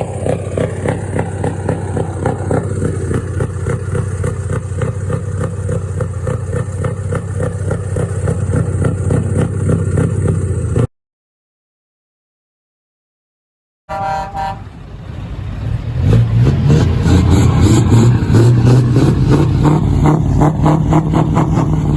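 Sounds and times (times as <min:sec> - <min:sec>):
diesel truck engine running: 0:00.0 - 0:10.8, 0:13.9 - 0:21.9.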